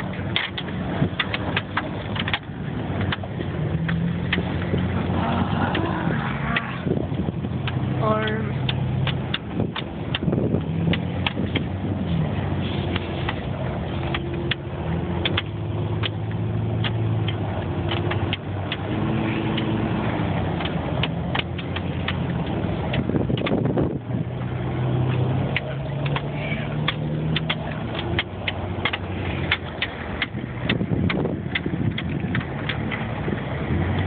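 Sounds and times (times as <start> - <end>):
off-road vehicle engine running: 0.0 - 34.0
vehicle rattling and knocking: 0.0 - 34.0.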